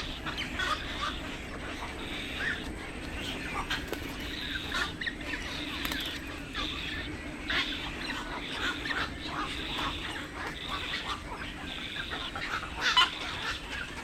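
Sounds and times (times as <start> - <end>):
birds squawking and chirping: 0.0 - 14.0
low background hum: 0.0 - 14.0.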